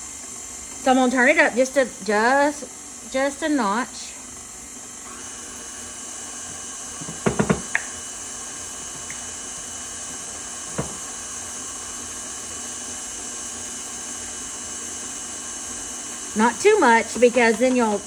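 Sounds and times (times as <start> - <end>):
stand mixer motor whine: 0.0 - 18.0.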